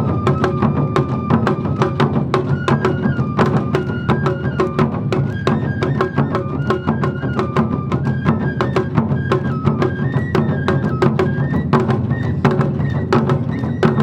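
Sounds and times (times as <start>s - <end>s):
bamboo flute melody: 0.0s - 14.0s
taiko drums beating: 0.0s - 14.0s.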